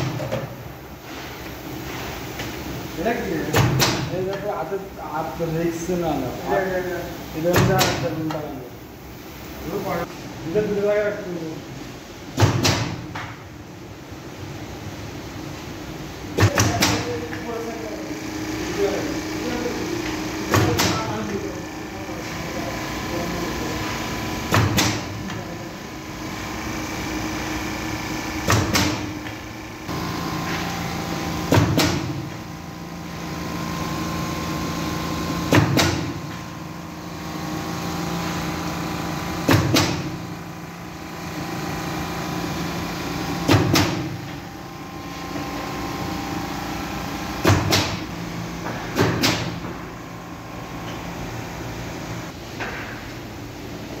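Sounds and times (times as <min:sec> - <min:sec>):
laminator motor hum: 0:00.0 - 0:54.0.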